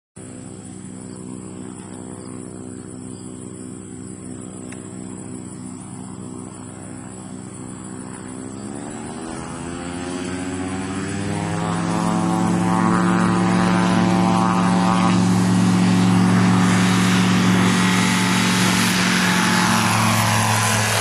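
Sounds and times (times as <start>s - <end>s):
light aircraft engine running: 0.2s - 21.0s.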